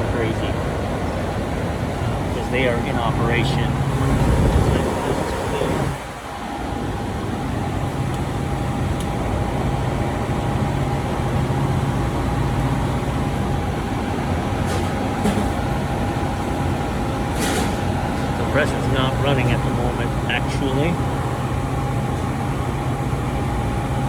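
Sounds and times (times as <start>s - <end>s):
machine running hum: 0.0s - 24.0s.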